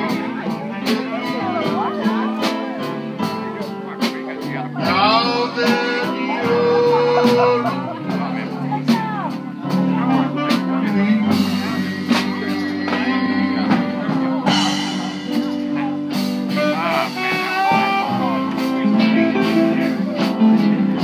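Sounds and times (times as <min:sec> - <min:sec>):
guitars: 0:00.0 - 0:21.0
keyboard melody: 0:00.0 - 0:21.0.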